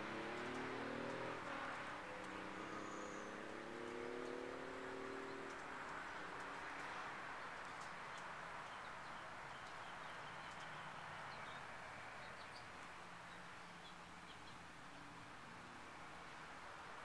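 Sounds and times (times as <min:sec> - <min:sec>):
distant small birds chirping: 0:00.0 - 0:16.1.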